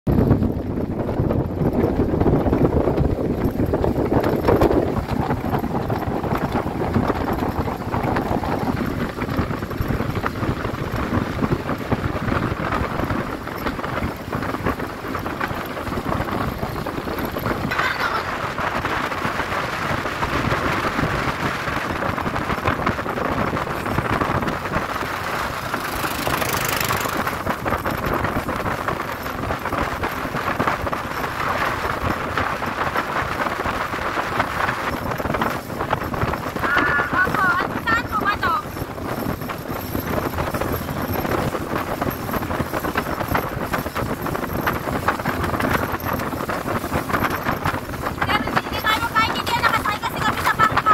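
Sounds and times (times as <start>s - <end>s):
boat motor running: 0.1s - 50.9s
wind buffeting microphone: 0.1s - 50.9s
water rushing past hull: 0.2s - 50.9s.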